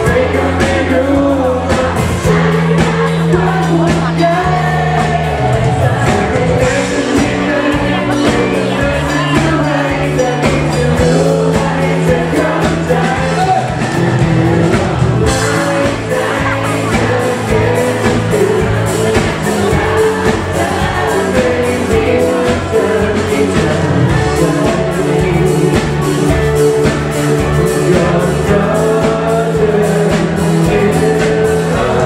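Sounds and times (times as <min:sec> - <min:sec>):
bass notes: 0:00.0 - 0:32.0
drum beat: 0:00.0 - 0:32.0
person singing: 0:00.0 - 0:32.0.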